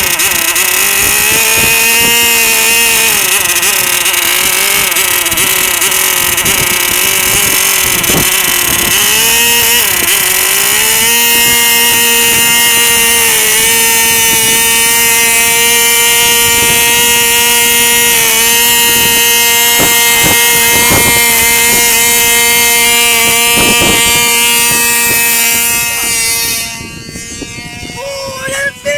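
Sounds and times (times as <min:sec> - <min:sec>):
model airplane engine running: 0:00.0 - 0:28.9.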